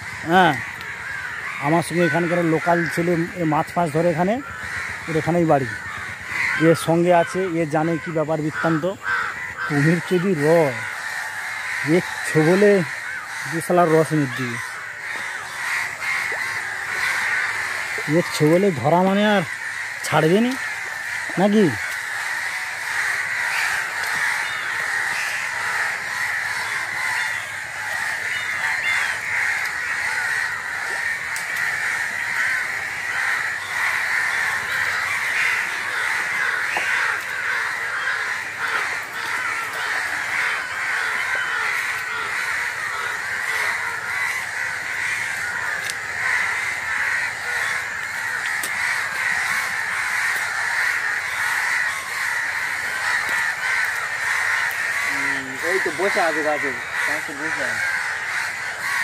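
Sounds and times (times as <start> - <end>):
flock of birds calling: 0.0 - 59.0.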